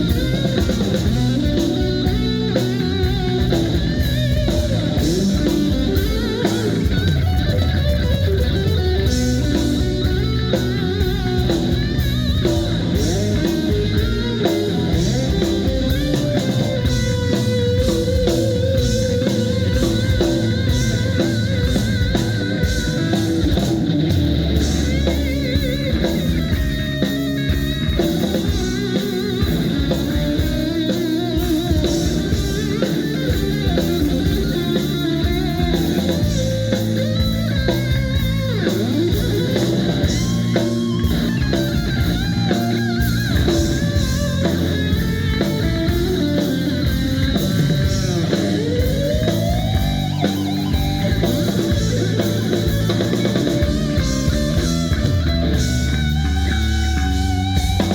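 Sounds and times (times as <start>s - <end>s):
drum kit beat: 0.0s - 57.9s
electric guitar: 0.0s - 57.9s.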